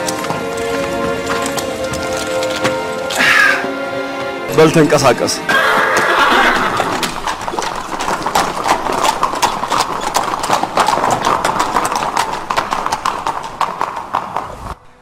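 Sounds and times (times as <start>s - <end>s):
horse hooves clip-clopping on stone: 0.0s - 14.8s.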